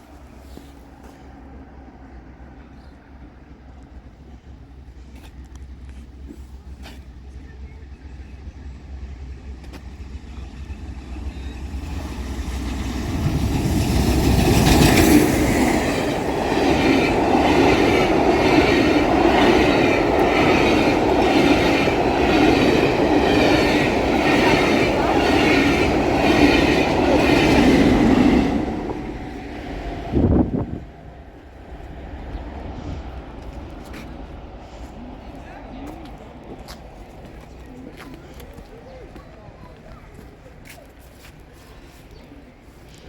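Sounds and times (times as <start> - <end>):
steam train passing: 0.0 - 43.0.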